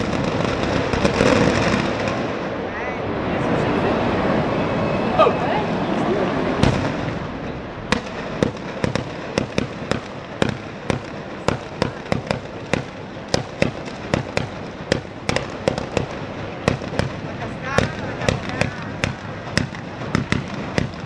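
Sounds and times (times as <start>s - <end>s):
small mortars firing sharp bangs: 0.0s - 2.5s, 6.6s - 21.0s.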